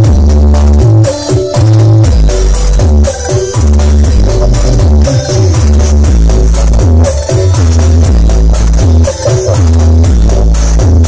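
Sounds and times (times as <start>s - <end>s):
loud electronic dance music: 0.0s - 11.0s.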